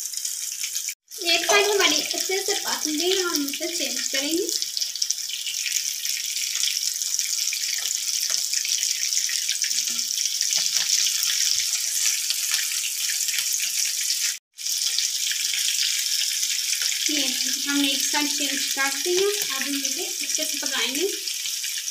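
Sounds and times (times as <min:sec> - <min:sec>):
food sizzling in hot oil: 0:00.0 - 0:21.9.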